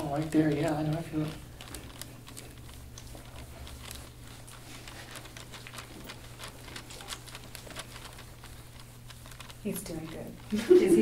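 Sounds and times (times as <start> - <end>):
soft clicks and crackles: 0.0 - 11.0
steady low hum: 0.0 - 11.0.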